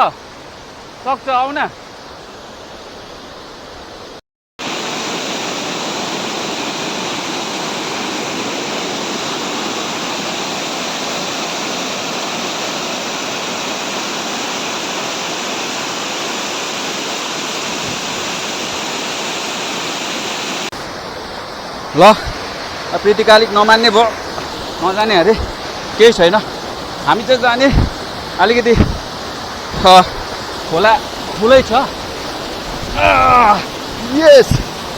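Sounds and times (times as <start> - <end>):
waterfall crashing onto rocks: 4.6 - 34.9.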